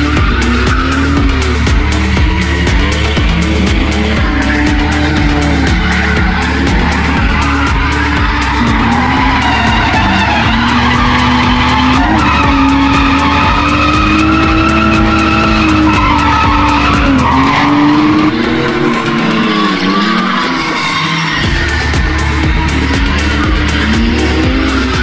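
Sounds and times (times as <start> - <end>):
car engine at high revs: 0.0 - 25.0
tyres skidding: 0.0 - 25.0.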